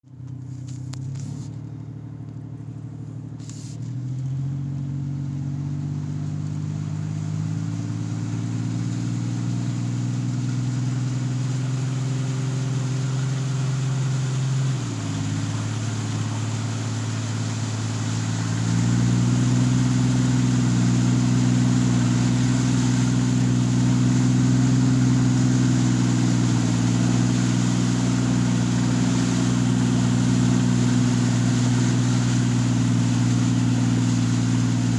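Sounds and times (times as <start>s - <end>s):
truck engine running: 0.0s - 34.9s
water rushing hiss: 6.2s - 34.9s.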